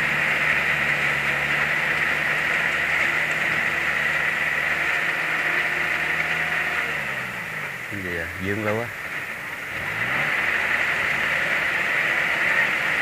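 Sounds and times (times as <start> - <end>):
combine harvester running under load: 0.0 - 13.0.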